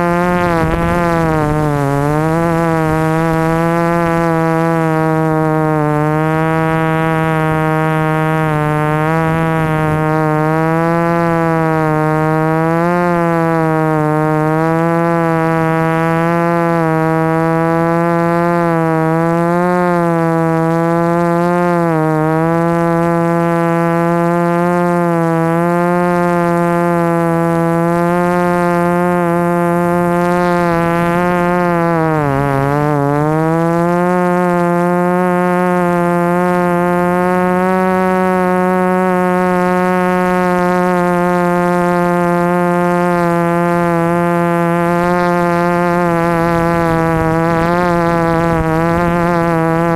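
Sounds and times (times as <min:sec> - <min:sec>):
drone motors buzzing: 0:00.0 - 0:49.9.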